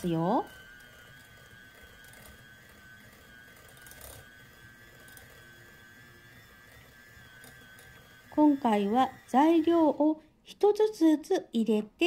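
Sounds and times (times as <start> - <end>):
electric hand mixer whine: 0.0 - 11.4.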